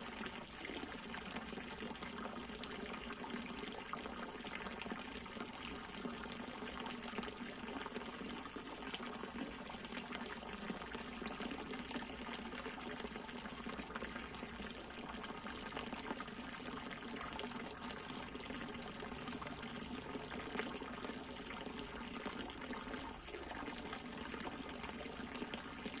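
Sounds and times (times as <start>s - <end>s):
water pouring and splashing: 0.0s - 26.0s.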